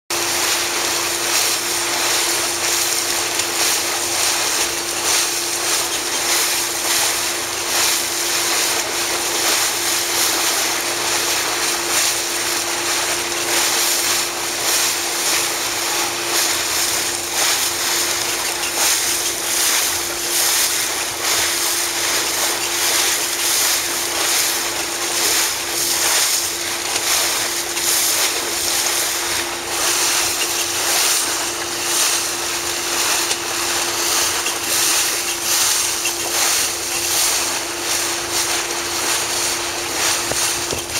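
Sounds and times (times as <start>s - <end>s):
motorboat engine drone: 0.1s - 40.9s
water spraying along hull: 0.1s - 40.9s
wind: 0.1s - 40.9s.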